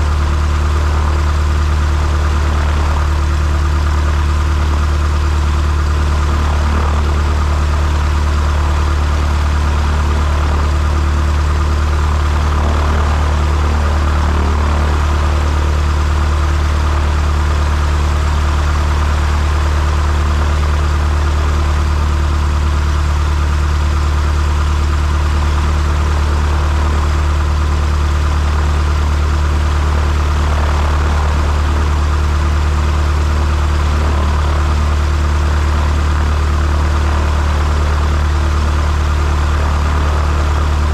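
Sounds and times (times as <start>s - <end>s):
low mechanical drone: 0.0s - 40.9s.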